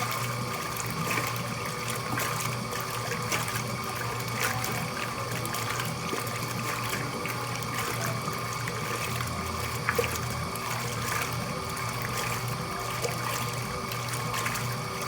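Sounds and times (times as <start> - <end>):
steady motor hum: 0.0 - 15.0
washing machine running with water: 0.0 - 15.0.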